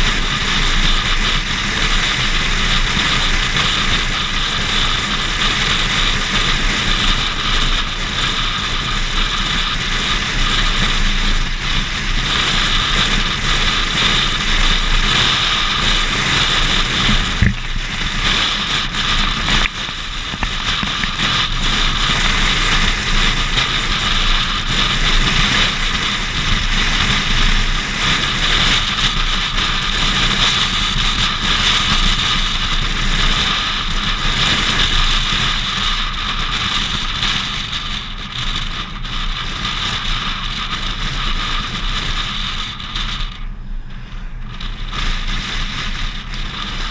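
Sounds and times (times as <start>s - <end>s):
wind rush and road noise: 0.0s - 46.9s.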